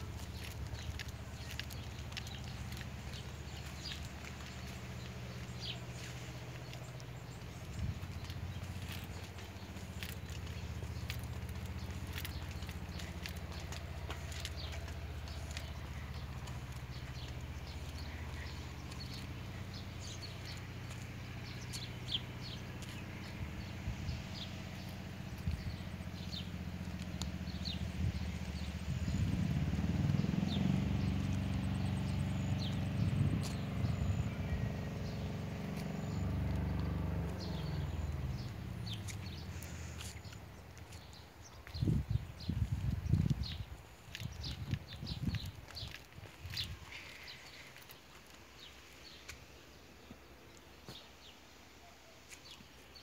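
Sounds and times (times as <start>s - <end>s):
steady low rumble: 0.0s - 47.7s
small birds chirping: 0.0s - 53.0s.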